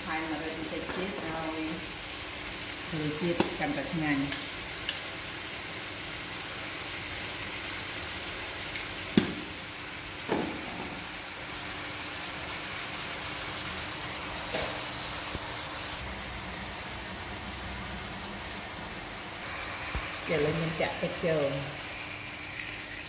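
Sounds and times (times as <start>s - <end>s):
fish sizzling in a wok: 0.0s - 23.0s.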